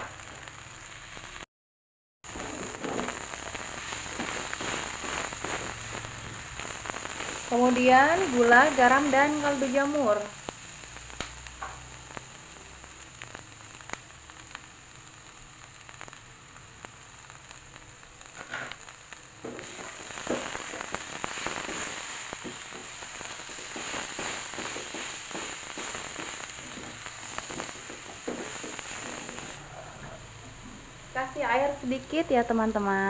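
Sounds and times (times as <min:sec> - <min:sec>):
food sizzling in a wok: 0:00.0 - 0:01.4, 0:02.3 - 0:33.0.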